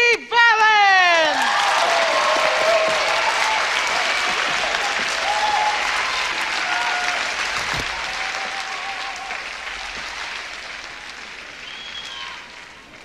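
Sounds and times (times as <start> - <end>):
people whooping: 1.3 - 10.3, 11.6 - 13.0
audience applauding and cheering: 1.3 - 13.0.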